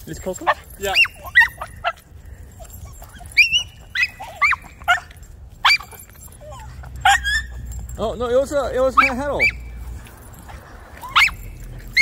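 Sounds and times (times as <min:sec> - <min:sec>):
dog squeaking and yipping: 0:00.2 - 0:12.0.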